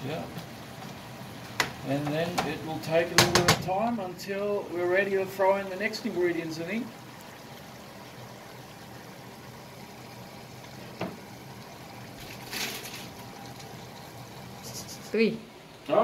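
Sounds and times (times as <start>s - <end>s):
food simmering hiss: 0.0s - 16.0s.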